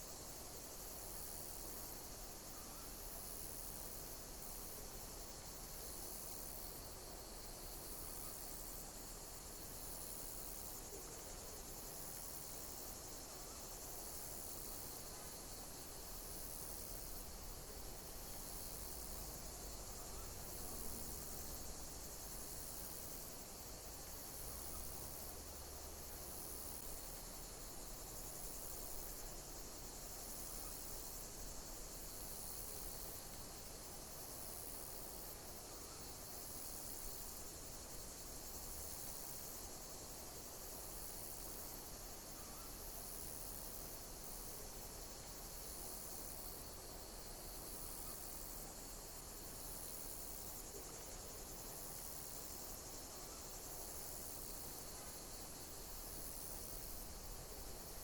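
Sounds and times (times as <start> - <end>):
hiss of insect song: 0.0 - 58.0
insects chirping: 0.0 - 58.0.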